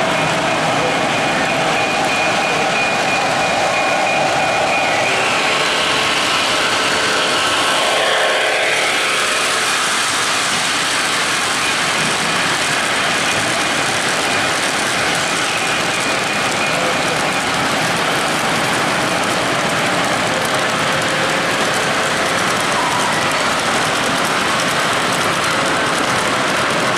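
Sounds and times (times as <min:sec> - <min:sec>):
model train rumbling on track: 0:00.0 - 0:26.9.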